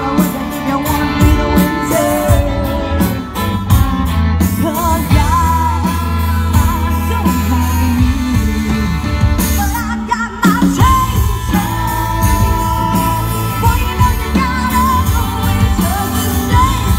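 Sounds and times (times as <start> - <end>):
bass line: 0.0 - 16.9
guitar: 0.0 - 16.9
person singing: 0.0 - 16.9.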